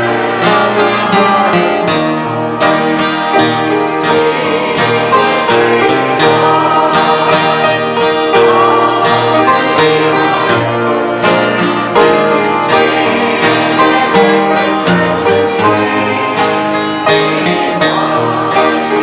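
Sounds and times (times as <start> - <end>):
instruments playing a hymn tune: 0.0 - 19.0.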